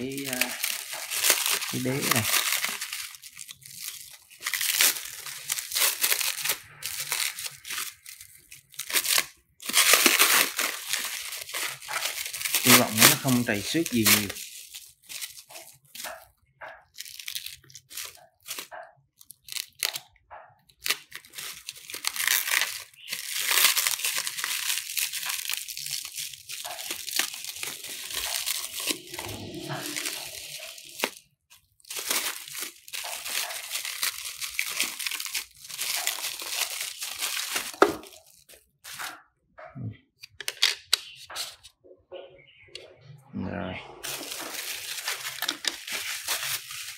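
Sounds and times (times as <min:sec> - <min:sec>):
plastic wrap crinkling and tearing: 0:00.0 - 0:39.3, 0:44.0 - 0:46.9.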